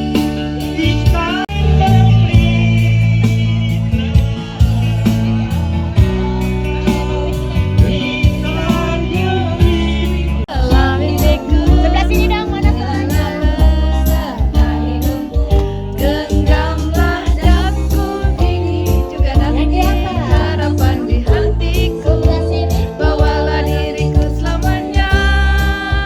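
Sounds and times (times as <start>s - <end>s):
bass line: 0.0s - 26.0s
guitar: 0.0s - 26.0s
song with singing voice: 0.0s - 26.0s.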